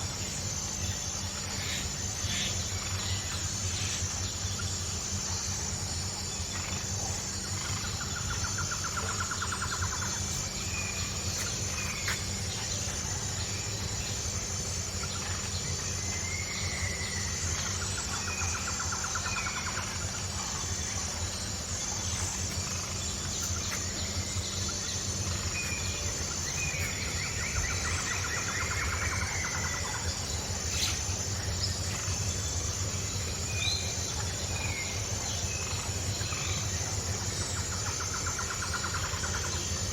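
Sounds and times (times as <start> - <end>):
birds chirping and trilling: 0.0 - 39.9
high insect buzz: 0.0 - 39.9
low steady rumble: 0.0 - 39.9.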